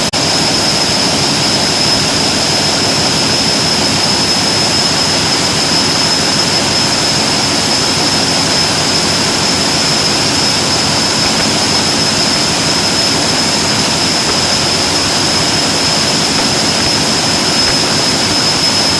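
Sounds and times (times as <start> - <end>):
electric drill whirring: 2.7 - 18.9.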